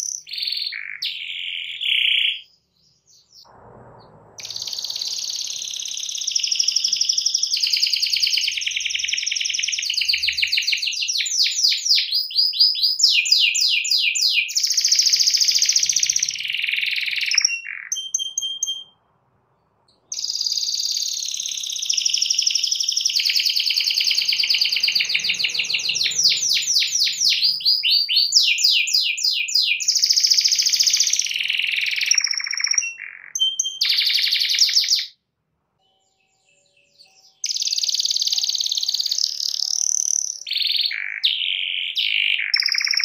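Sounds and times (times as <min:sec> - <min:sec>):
canary singing trills: 0:00.0 - 0:19.1, 0:19.9 - 0:35.2, 0:35.8 - 0:43.0.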